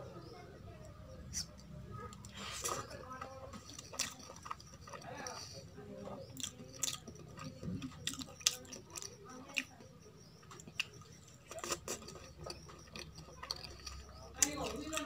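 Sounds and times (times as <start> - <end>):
chewing with wet smacks: 0.8 - 15.0.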